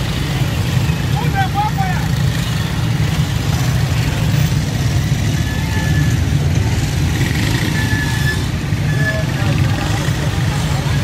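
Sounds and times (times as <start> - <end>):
busy market street noise: 0.0 - 11.0
motorcycle engines running: 0.0 - 11.0.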